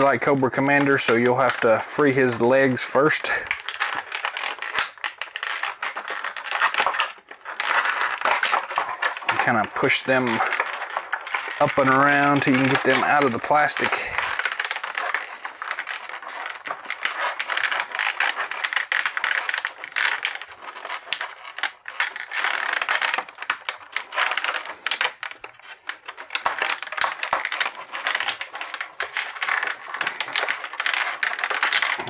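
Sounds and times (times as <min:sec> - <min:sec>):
plastic blister tray crinkling: 0:00.0 - 0:32.0.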